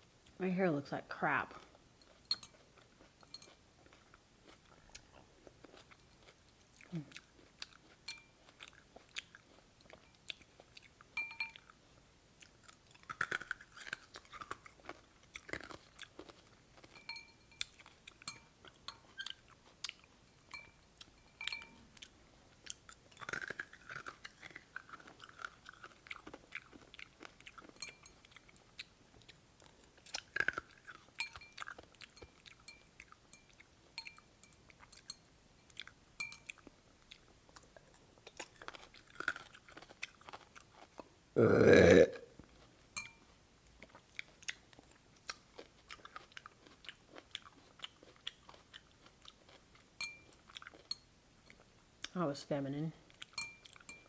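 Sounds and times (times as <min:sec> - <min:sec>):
chewing and crunching: 0:01.4 - 0:41.2, 0:42.4 - 0:52.2, 0:52.9 - 0:54.0.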